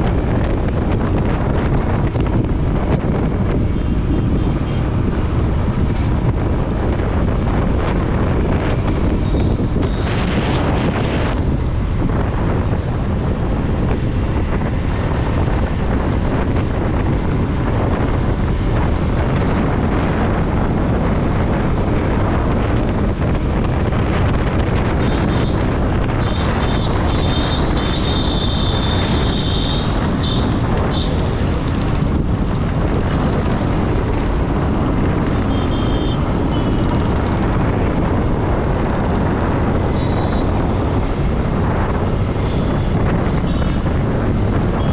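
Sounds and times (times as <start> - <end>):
motorcycle engine: 0.0 - 44.9
wind buffeting microphone: 0.0 - 44.9.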